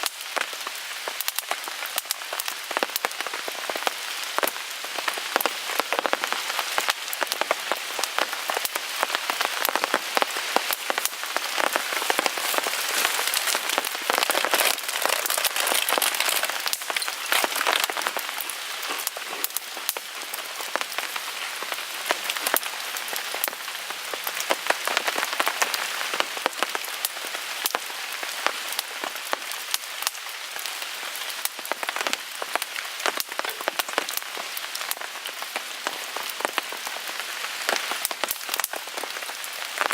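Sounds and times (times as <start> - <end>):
rain pattering on a tarp: 0.0 - 39.9
wood fire crackling: 0.0 - 39.9.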